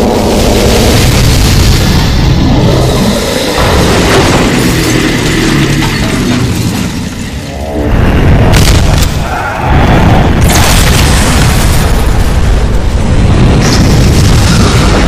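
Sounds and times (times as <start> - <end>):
booming explosions: 0.0 - 15.0
deep continuous rumble: 0.0 - 15.0.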